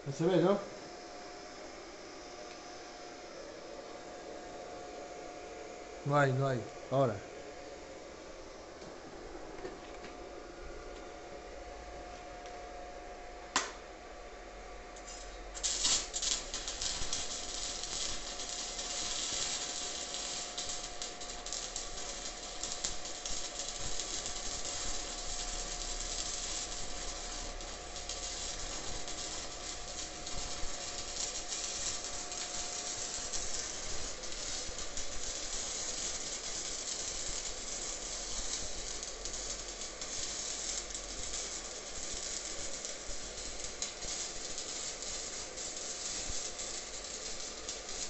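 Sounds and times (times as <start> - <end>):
arc welding crackling and sizzling: 0.0 - 48.0.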